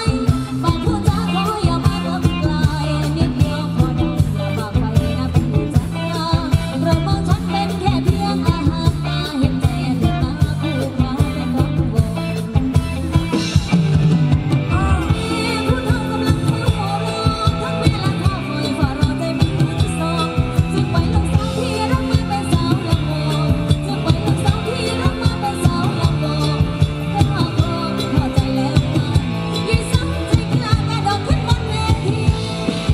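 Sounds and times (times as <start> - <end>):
person singing: 0.0 - 13.7, 14.5 - 32.9
keyboard: 0.0 - 32.9
steady drum beat: 0.0 - 32.9.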